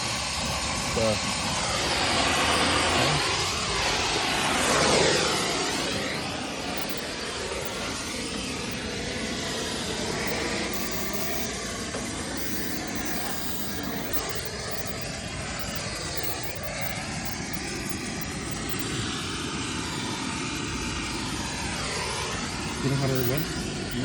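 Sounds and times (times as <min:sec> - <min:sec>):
brazing torch flame burning: 0:00.0 - 0:24.0.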